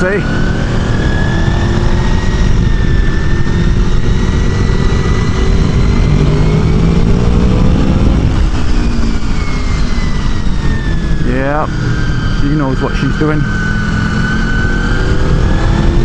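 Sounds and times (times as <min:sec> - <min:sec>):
motorcycle engine pulling hard: 0:00.0 - 0:16.0
wind rushing over microphone: 0:00.0 - 0:16.0.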